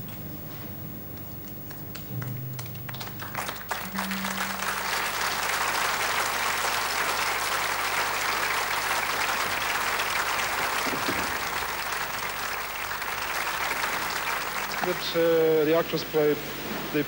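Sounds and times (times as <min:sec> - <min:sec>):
audience applauding: 0:01.3 - 0:17.0.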